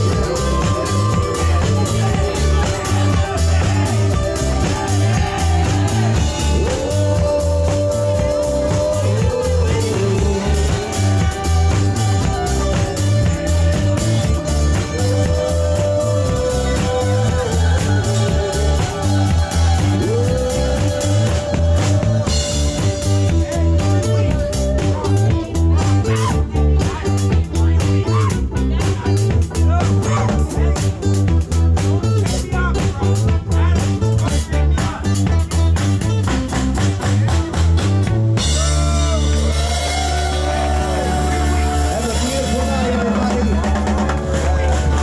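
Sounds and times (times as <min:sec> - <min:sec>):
live band playing rock: 0:00.0 - 0:45.0.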